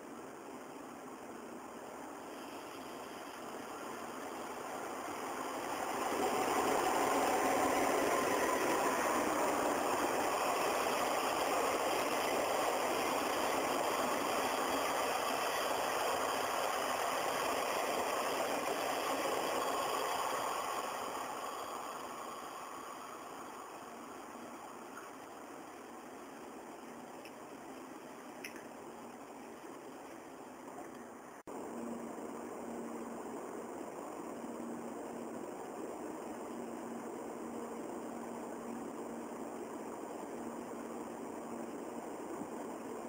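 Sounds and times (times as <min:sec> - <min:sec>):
electric train running past: 0:00.0 - 0:43.0.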